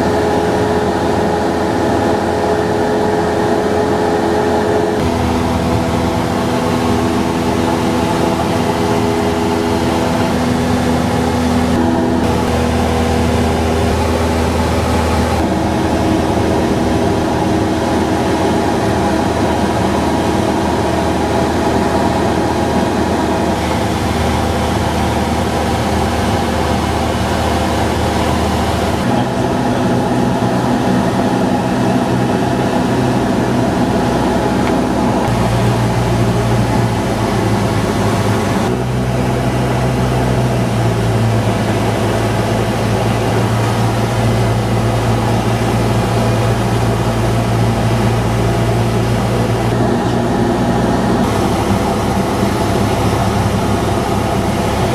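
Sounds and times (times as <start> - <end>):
airflow noise: 0.0 - 54.9
propeller plane engine droning: 0.0 - 54.9.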